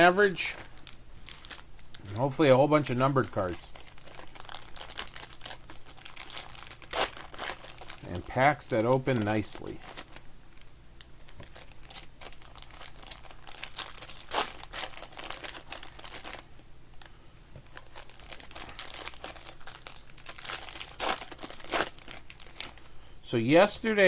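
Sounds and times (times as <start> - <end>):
foil wrappers tearing and crinkling: 0.0 - 16.6, 17.6 - 22.9.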